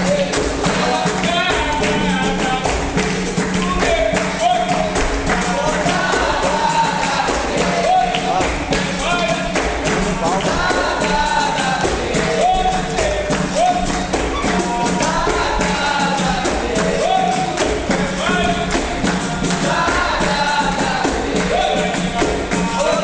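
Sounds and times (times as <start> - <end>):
rhythmic percussion: 0.0 - 23.0.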